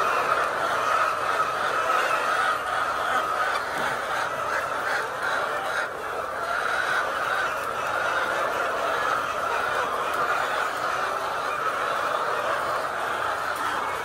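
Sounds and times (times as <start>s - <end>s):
flock of chickens calling: 0.0s - 14.0s.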